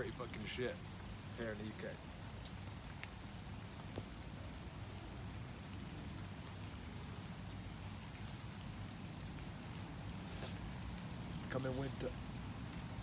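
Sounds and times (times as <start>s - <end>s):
raindrops tapping close by: 0.0s - 13.0s
steady rain falling: 0.0s - 13.0s.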